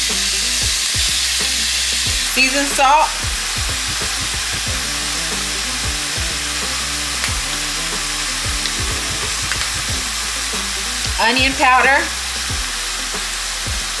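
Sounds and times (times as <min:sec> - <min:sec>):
meat sizzling in a pan: 0:00.0 - 0:14.0
soft background music: 0:00.0 - 0:14.0.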